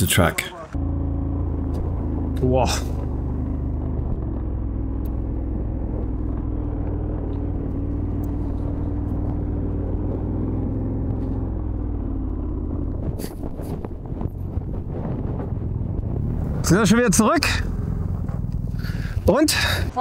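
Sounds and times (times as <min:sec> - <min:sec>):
motorcycle engine running steadily: 0:00.1 - 0:20.0.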